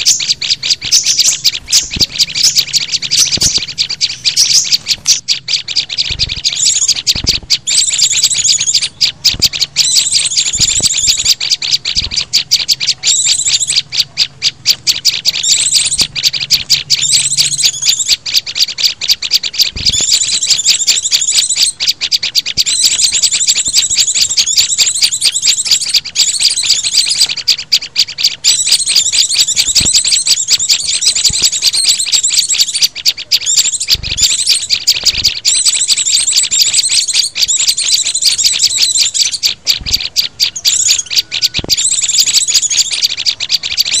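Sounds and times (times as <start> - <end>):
small songbirds chipping and trilling: 0.0 - 44.0.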